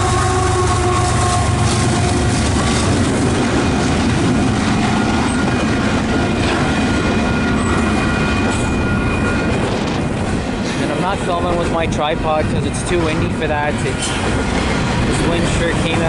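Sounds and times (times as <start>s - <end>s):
train wheels clacking on rails: 0.0s - 16.0s
wind buffeting microphone: 0.0s - 16.0s.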